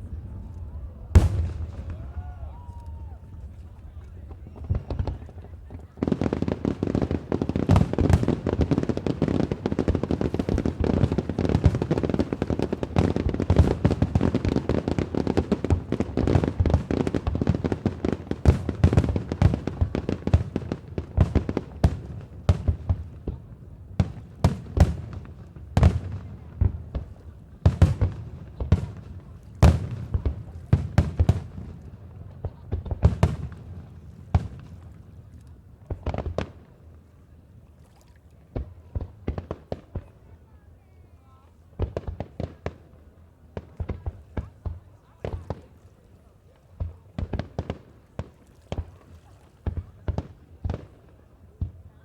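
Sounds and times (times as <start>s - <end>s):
fireworks bangs and crackling: 0.0s - 37.1s, 38.4s - 40.4s, 41.7s - 45.8s, 46.7s - 49.0s, 49.6s - 52.0s.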